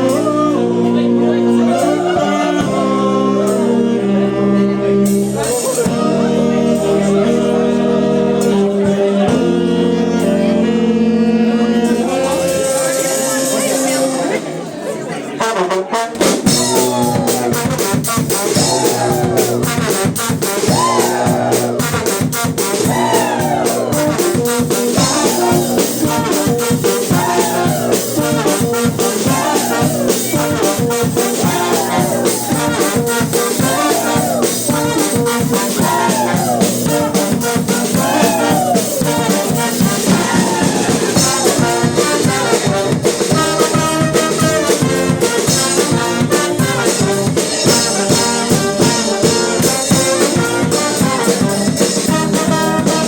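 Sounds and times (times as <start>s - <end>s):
brass band playing: 0.0s - 53.0s.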